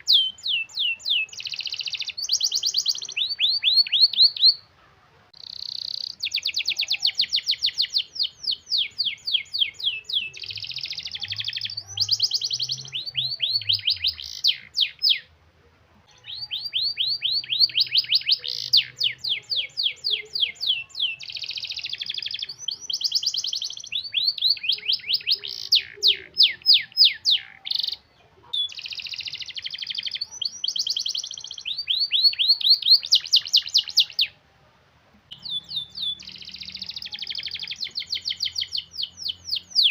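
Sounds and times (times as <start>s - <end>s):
canary singing trills: 0.0s - 15.4s, 16.0s - 34.4s, 35.2s - 39.9s.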